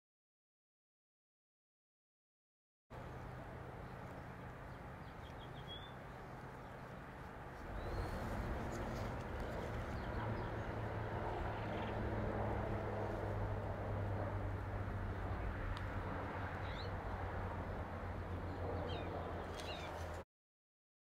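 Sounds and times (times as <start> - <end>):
low hum and rumble: 3.0 - 20.2.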